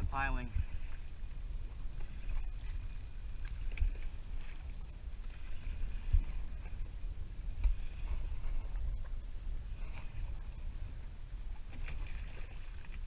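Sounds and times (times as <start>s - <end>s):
water lapping against kayak hull: 0.0s - 13.0s.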